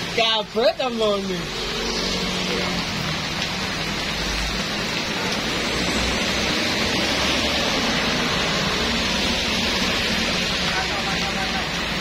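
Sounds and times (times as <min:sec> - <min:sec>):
heavy rain on road: 0:00.0 - 0:12.0.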